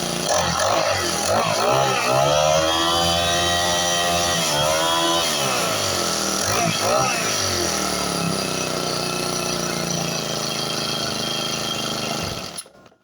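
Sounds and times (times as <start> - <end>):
grass cutter engine running: 0.0 - 13.0.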